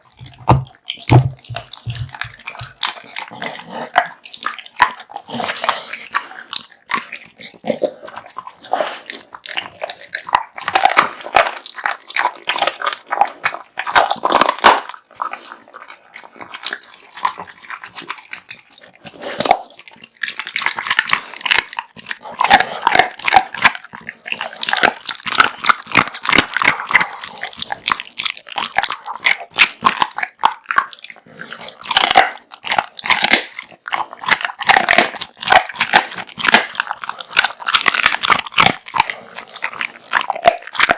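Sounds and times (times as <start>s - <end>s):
dog chewing meat and bone: 0.0s - 40.9s.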